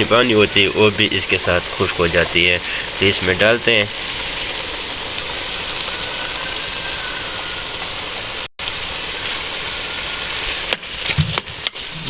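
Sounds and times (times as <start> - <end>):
pot sizzling and simmering: 0.0 - 12.0.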